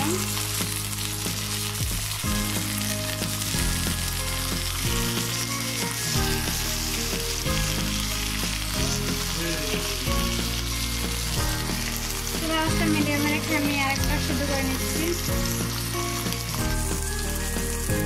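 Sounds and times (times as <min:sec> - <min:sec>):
low background music: 0:00.0 - 0:18.0
steaks sizzling in a pan: 0:00.0 - 0:18.0.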